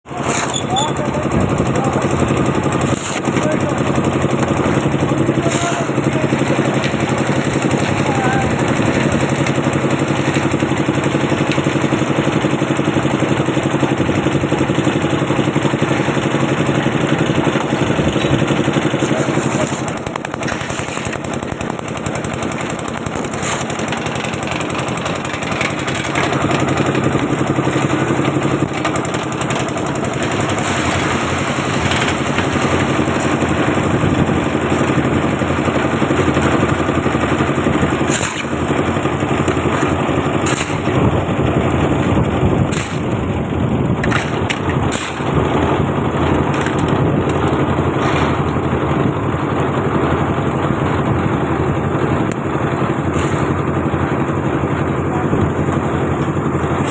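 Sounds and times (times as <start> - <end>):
concrete mixer engine running: 0.0 - 56.9.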